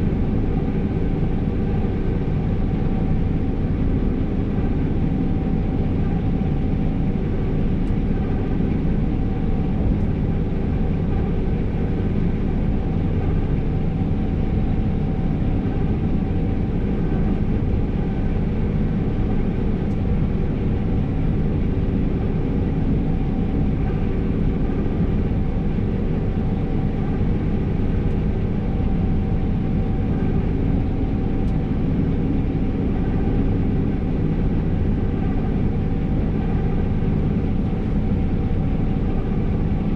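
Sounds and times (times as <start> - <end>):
combine harvester drone: 0.0 - 39.9
faint steady whine: 0.0 - 39.9.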